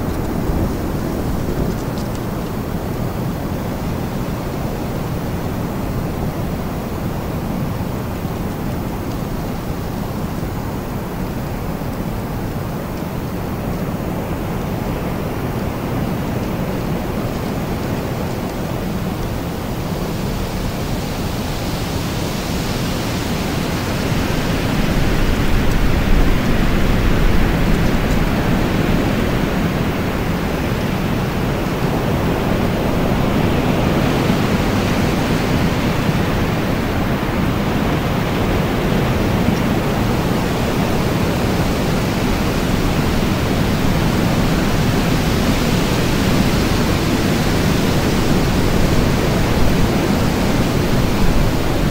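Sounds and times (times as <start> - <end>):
wind blowing: 0.0 - 51.9.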